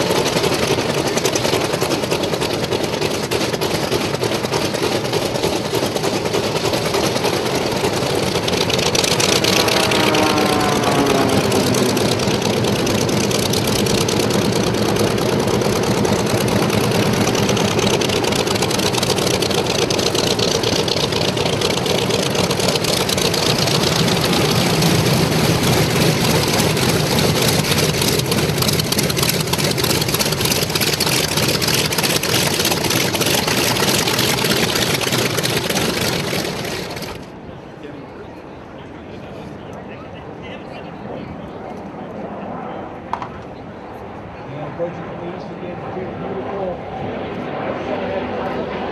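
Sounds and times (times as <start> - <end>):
aircraft engines droning: 0.0 - 48.9.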